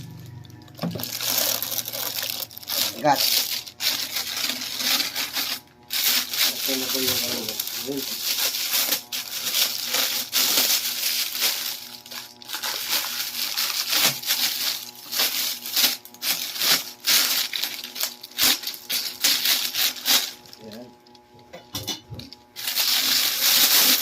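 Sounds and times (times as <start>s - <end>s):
packing material crinkling: 0.1s - 21.2s, 22.2s - 24.0s.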